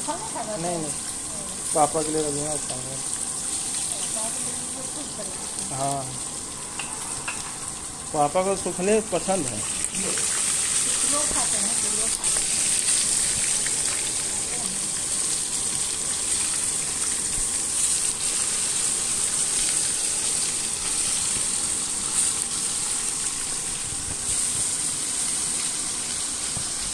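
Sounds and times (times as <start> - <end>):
fish sizzling in hot oil: 0.0 - 26.9.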